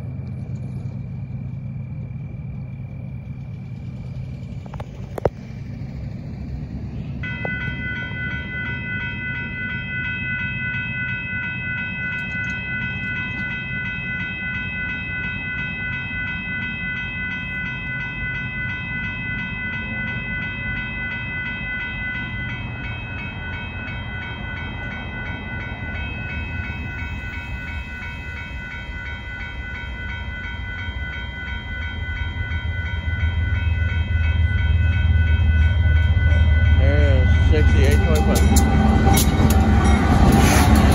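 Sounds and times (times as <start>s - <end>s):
crossing warning bell ringing: 0.0s - 40.9s
freight train rumble: 0.0s - 40.9s.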